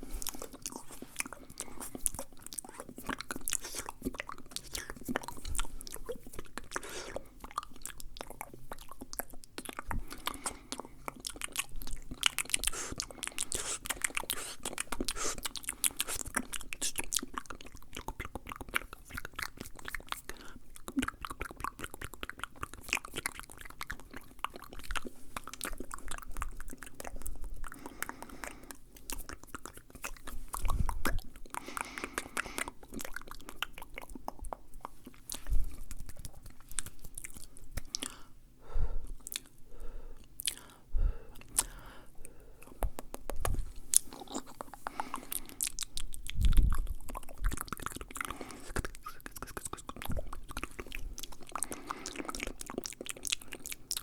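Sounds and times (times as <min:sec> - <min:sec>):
mouth clicks and smacks: 0:00.0 - 0:38.3, 0:39.0 - 0:54.0.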